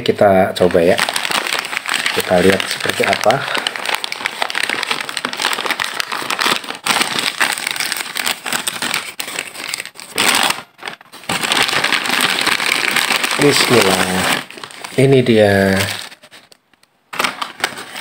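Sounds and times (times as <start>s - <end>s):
paper wrapping crinkling: 0.6s - 18.0s.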